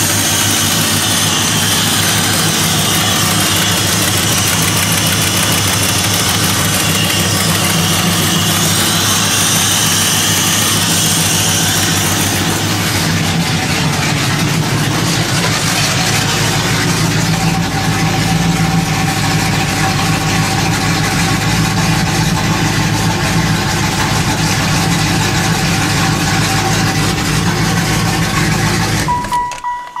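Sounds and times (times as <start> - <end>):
steady thin whine: 0.0 - 29.1
car engine idling: 0.0 - 29.6.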